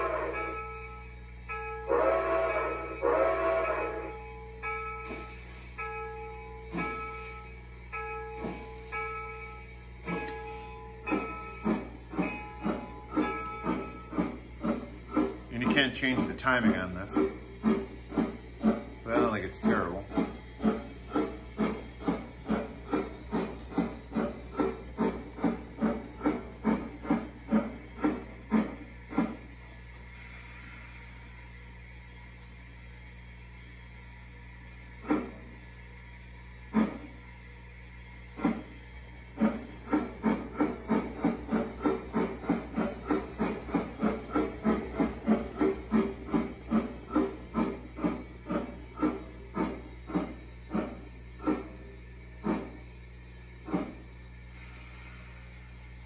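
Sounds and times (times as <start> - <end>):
steam locomotive chuffing from speaker: 0.0 - 56.0.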